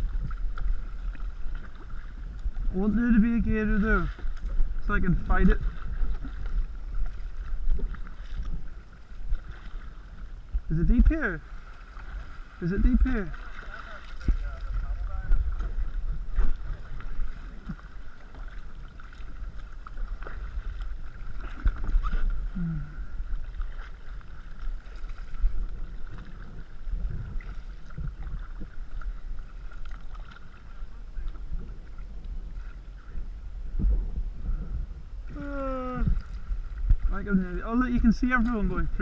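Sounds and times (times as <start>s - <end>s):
paddle knocking canoe hull: 0.0s - 33.1s
low wind rumble on microphone: 0.0s - 39.0s.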